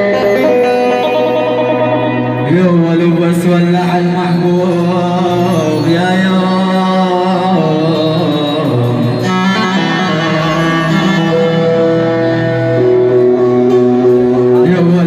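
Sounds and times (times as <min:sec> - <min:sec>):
wavering sliding melody: 0:00.0 - 0:15.0.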